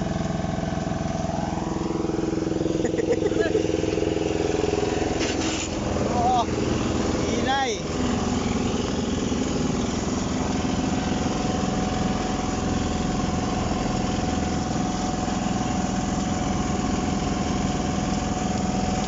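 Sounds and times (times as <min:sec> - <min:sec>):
diesel engine running: 0:00.0 - 0:19.0
thin steady whine: 0:00.0 - 0:19.0.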